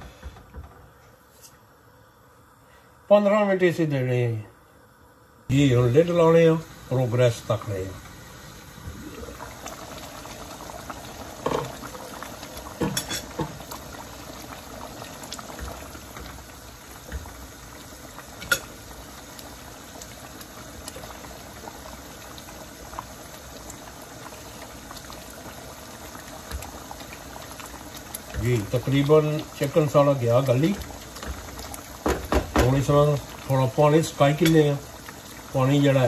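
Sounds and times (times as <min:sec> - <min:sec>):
sauce bubbling in a pot: 0:04.8 - 0:36.0.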